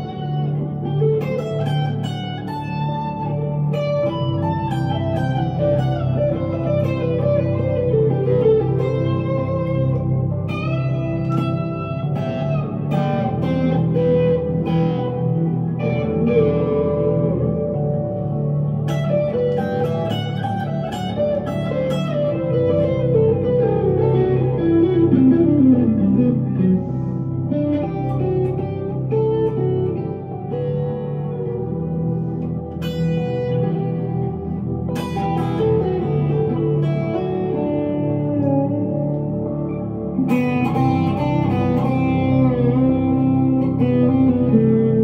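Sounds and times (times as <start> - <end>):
electric guitar lead line: 0.0 - 45.0.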